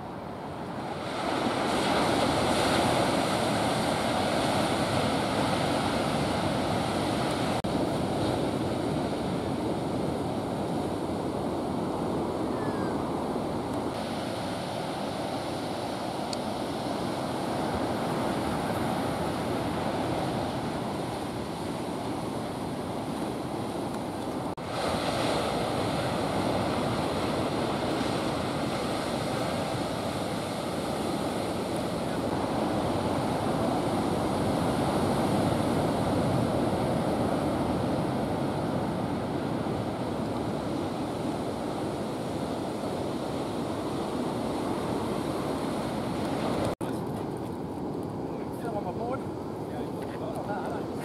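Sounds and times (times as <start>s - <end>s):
ocean surf breaking: 0.0s - 51.0s
wind on microphone: 0.0s - 51.0s.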